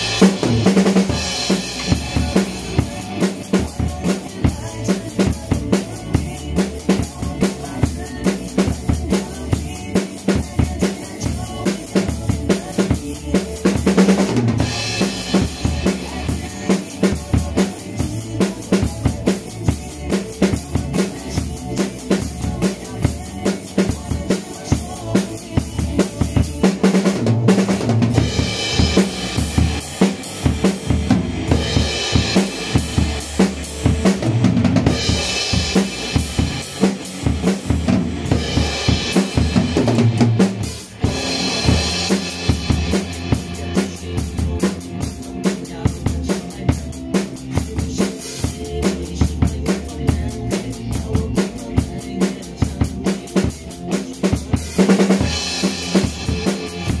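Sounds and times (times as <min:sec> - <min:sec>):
drum kit beat: 0:00.0 - 0:57.0.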